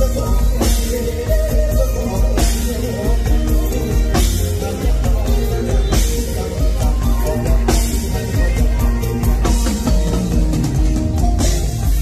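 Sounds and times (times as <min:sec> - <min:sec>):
man singing into a microphone: 0:00.0 - 0:10.5
live band music: 0:00.0 - 0:12.0.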